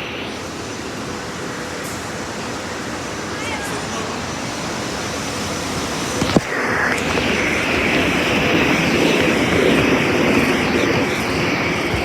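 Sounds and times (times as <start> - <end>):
electric train rumbling past: 0.0 - 12.0.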